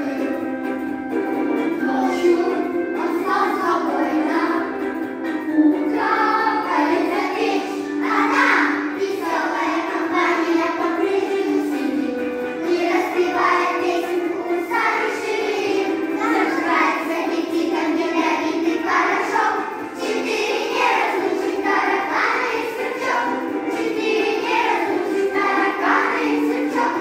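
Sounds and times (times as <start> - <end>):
children's choir singing: 0.0 - 27.0
musical accompaniment: 0.0 - 27.0.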